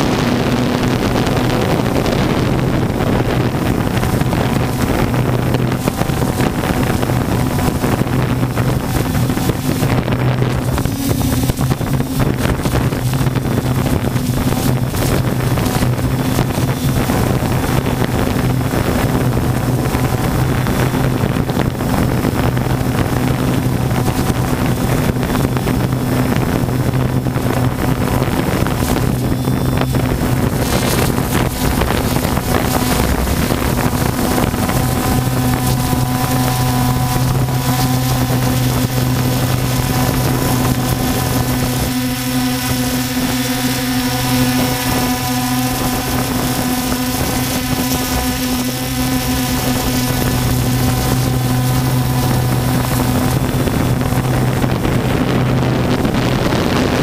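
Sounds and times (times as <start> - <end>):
drone propellers humming: 0.0 - 57.0
wind buffeting microphone: 0.0 - 57.0.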